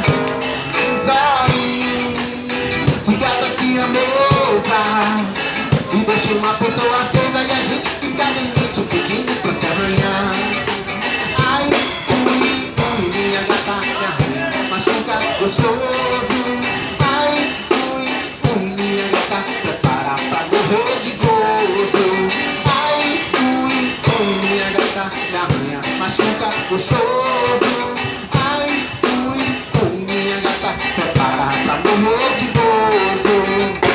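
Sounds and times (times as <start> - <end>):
drum kit beat: 0.0 - 33.9.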